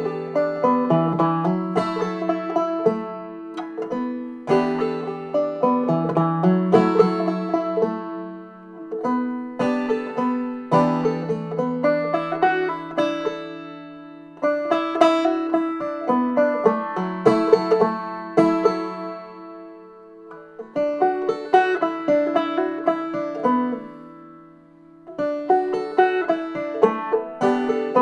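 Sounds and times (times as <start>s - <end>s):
banjo picking a tune: 0.0s - 28.0s.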